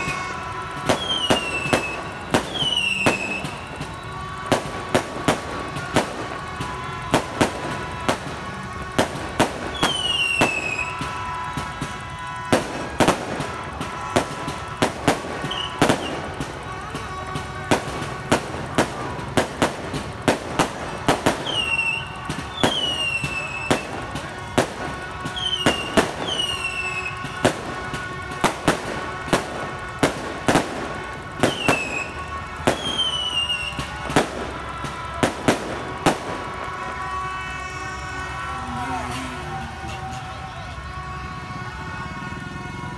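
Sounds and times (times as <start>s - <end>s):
fireworks bangs: 0.0s - 42.9s
fireworks falling whistles: 0.0s - 42.9s.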